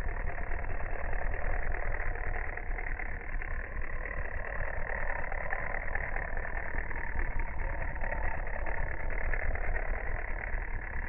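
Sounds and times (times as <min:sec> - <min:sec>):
clockwork toy mechanism rumbling: 0:00.0 - 0:11.0.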